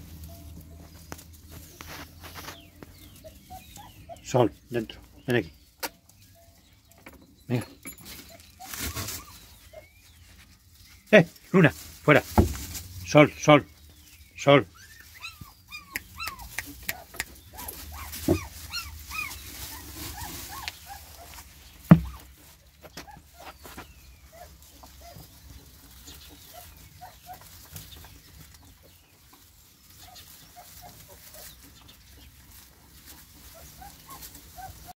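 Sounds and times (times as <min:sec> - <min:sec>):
puppies squeaking and whimpering: 0:00.2 - 0:10.8, 0:14.0 - 0:28.4, 0:29.9 - 0:35.0.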